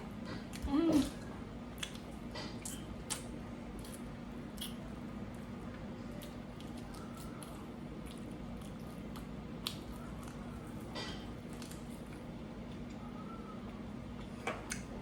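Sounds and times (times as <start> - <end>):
person chewing and eating: 0.0 - 13.0
steady low hum: 0.0 - 15.0.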